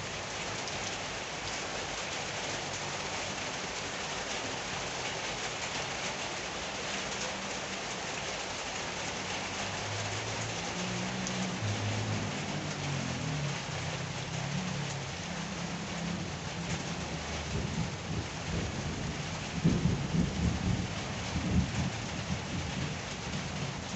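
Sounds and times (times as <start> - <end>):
rain pattering: 0.0 - 23.9.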